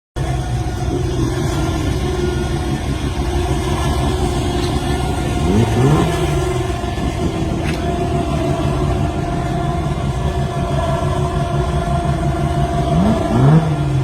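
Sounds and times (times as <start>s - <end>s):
car engine idling choppily: 0.2s - 14.0s.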